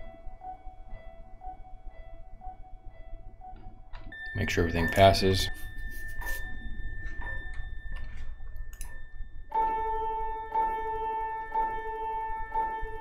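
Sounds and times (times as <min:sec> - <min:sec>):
repeating piano-like note: 0:00.0 - 0:13.0.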